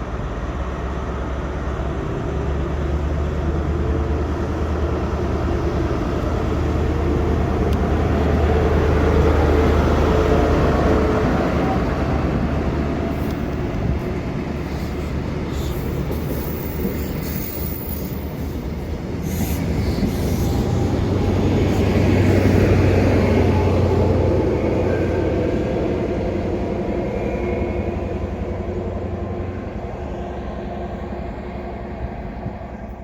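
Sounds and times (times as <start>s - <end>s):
train passing by: 0.0s - 33.0s.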